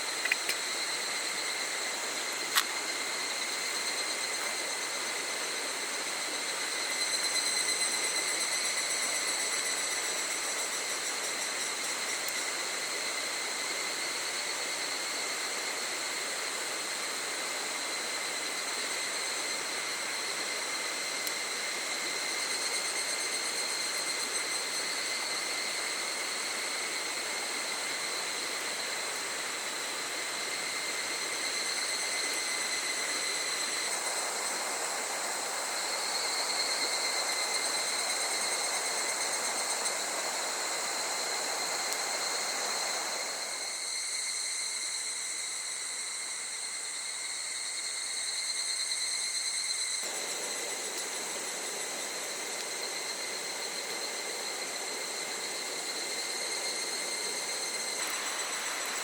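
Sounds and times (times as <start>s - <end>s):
cicadas chorus: 0.0s - 59.0s.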